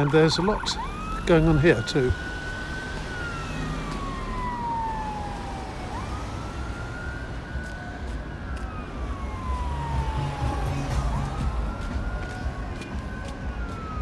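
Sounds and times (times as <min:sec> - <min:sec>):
emergency siren wailing: 0:00.0 - 0:14.0
road traffic rumble: 0:00.0 - 0:14.0.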